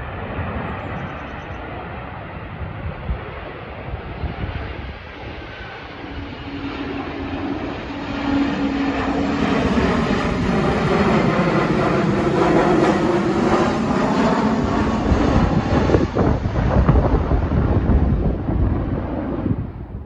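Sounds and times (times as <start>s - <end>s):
jet airliner flying overhead: 0.0s - 20.0s
wind rumbling on microphone: 0.0s - 20.0s.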